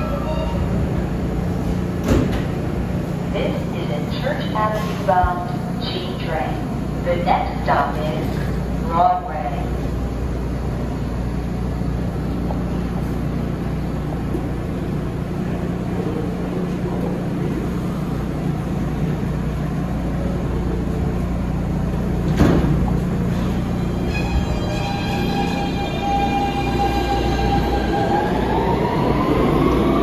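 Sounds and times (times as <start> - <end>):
subway train hum and rumble: 0.0 - 30.0.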